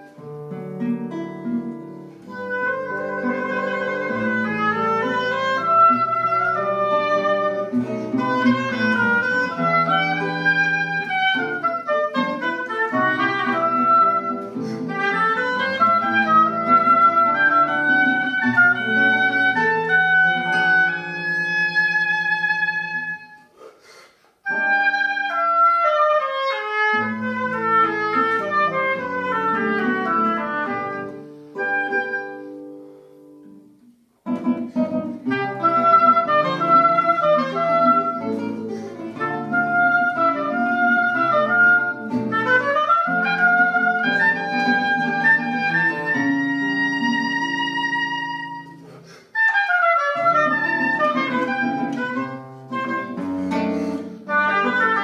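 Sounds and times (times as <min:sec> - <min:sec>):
plucked classical guitar: 0:00.0 - 0:23.7, 0:24.4 - 0:55.0
woodwind melody: 0:00.0 - 0:33.6, 0:34.3 - 0:55.0.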